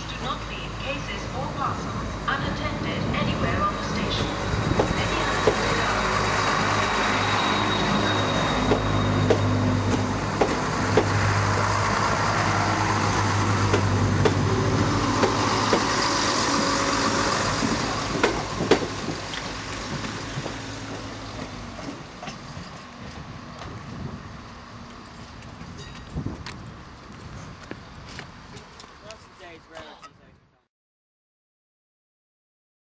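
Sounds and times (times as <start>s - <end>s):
train engine hum: 0.0s - 30.4s.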